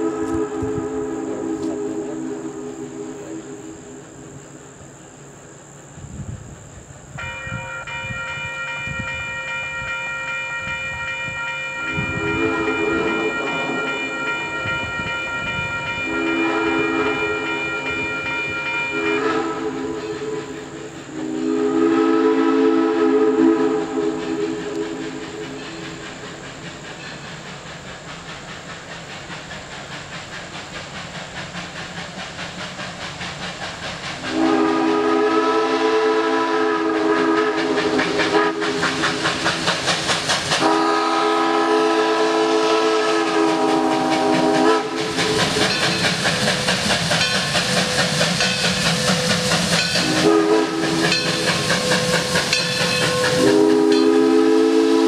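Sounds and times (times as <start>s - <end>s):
steam locomotive whistle: 0.0s - 4.6s, 7.2s - 28.6s, 34.1s - 55.0s
steam engine exhaust beats: 0.0s - 55.0s.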